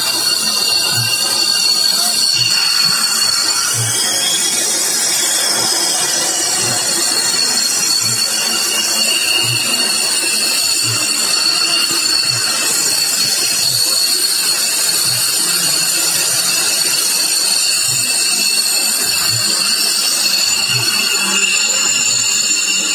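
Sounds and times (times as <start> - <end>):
jet engines idling: 0.0 - 22.9.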